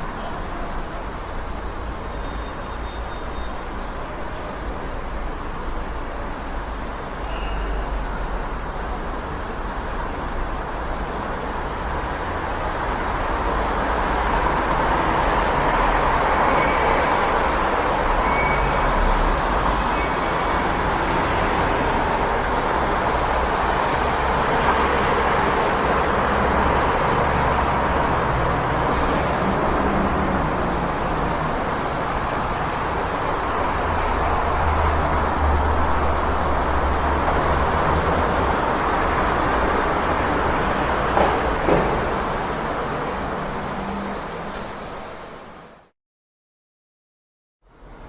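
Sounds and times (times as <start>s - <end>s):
passing vehicles rumbling: 3.7s - 45.9s.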